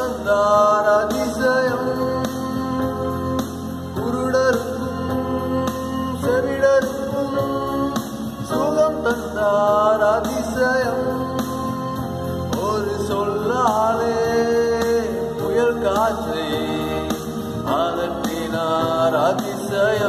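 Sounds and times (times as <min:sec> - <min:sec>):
guitar accompaniment: 0:00.0 - 0:20.0
man singing worship song: 0:00.0 - 0:20.0.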